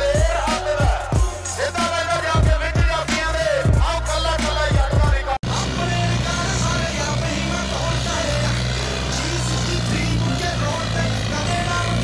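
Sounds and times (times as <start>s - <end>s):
rock background music: 0.0s - 12.0s.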